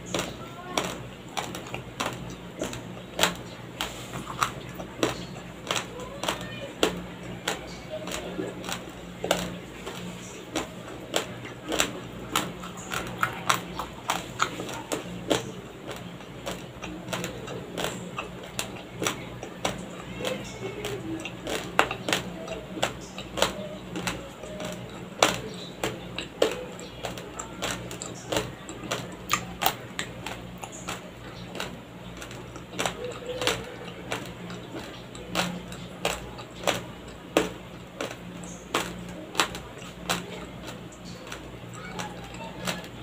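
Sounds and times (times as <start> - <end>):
chewing raw rice grains: 0.0 - 43.0
low steady hum: 0.0 - 43.0.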